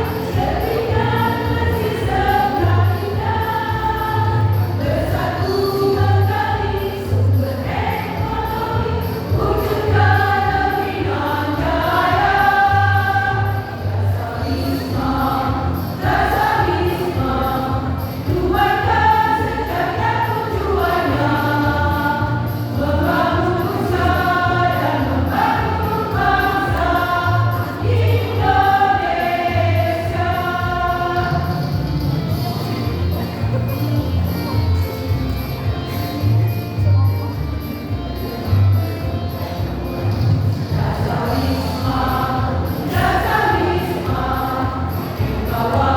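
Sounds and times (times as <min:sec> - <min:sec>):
choir singing: 0:00.0 - 0:32.0, 0:40.6 - 0:45.9
instrumental backing with bass: 0:00.0 - 0:45.9.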